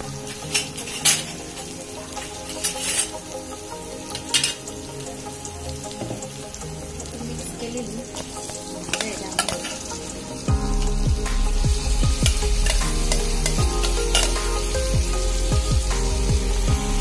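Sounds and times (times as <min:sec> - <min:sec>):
food sizzling in pan: 0:00.0 - 0:17.0.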